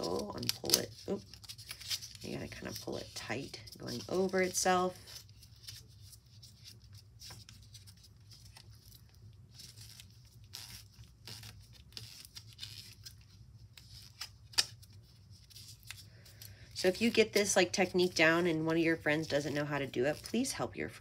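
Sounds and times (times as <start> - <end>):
paper rustling and crinkling: 0.0 - 18.2.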